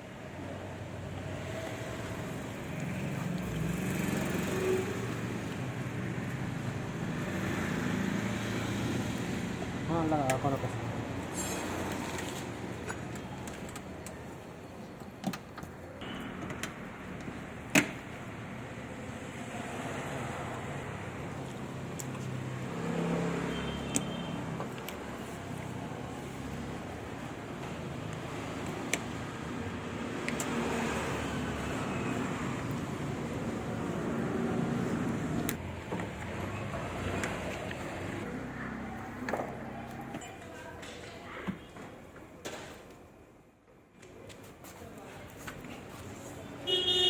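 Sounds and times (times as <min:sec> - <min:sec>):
motor vehicle noise: 0:00.0 - 0:40.8.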